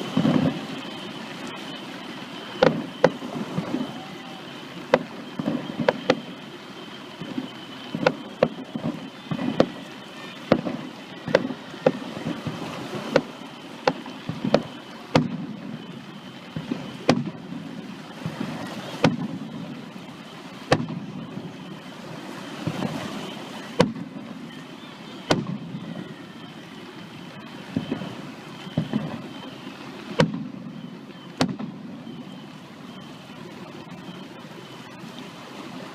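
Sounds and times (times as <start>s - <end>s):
fireworks bangs: 0.0s - 6.4s, 7.2s - 20.0s, 20.6s - 24.6s, 25.3s - 26.1s, 27.6s - 32.3s
background rumble: 0.0s - 35.2s.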